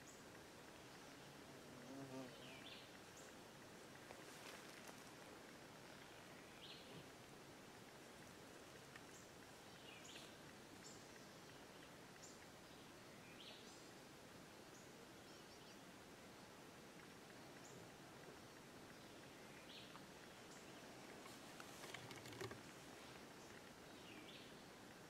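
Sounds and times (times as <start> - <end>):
faint woodland ambience: 0.0 - 25.0.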